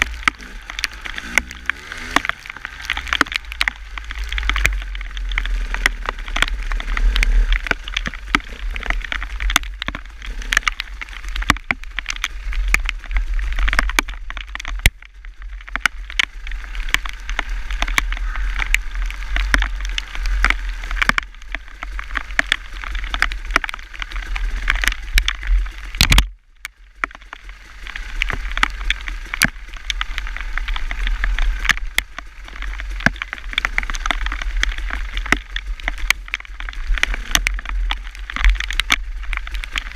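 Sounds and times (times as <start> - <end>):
sharp irregular ticks: 0.0 - 39.9
wind rumbling on microphone: 0.0 - 39.9.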